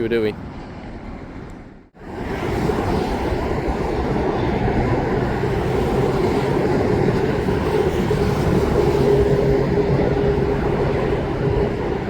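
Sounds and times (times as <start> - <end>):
train rumbling by: 2.0 - 12.0.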